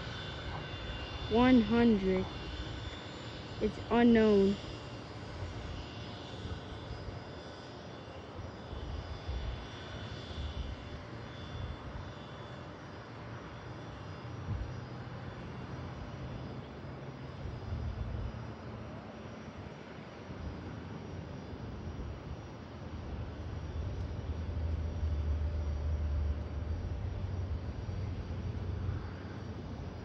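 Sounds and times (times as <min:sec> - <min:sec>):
high turbine whine: 0:00.0 - 0:30.0
jet engines rumbling: 0:00.0 - 0:30.0.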